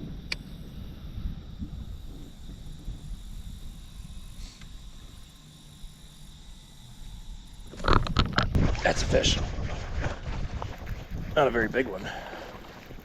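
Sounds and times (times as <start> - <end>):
wind rumble on microphone: 0.0 - 5.4, 7.2 - 13.0.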